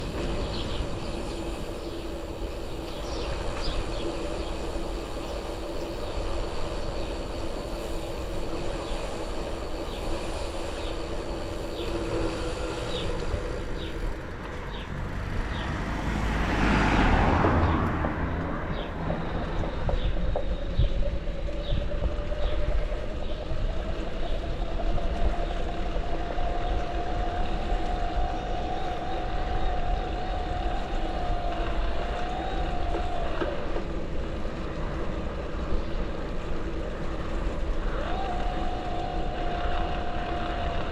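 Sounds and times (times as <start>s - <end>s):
broad rush of noise: 0.0s - 40.9s
wind: 0.0s - 40.9s.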